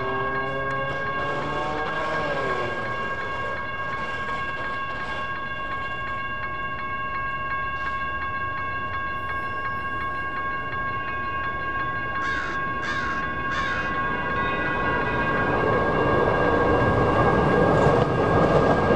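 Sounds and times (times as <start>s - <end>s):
railroad crossing bell ringing: 0.0s - 18.9s.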